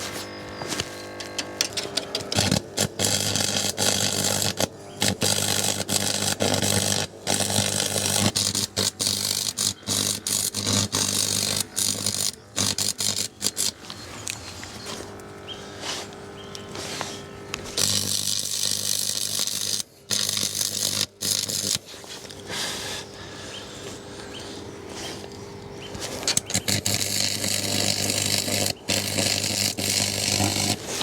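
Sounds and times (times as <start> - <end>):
welding arc crackling: 0.0 - 15.4, 17.3 - 22.5, 26.0 - 31.0
welder hum: 0.0 - 31.0.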